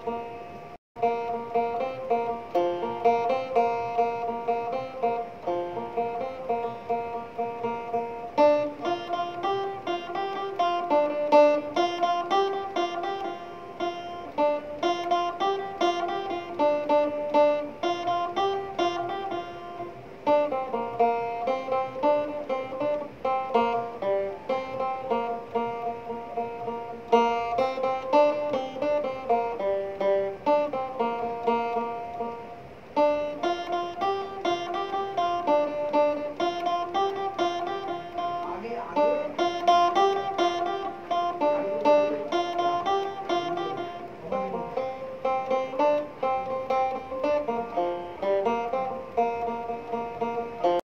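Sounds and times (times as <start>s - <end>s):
plucked string instrument music: 0.0s - 50.8s.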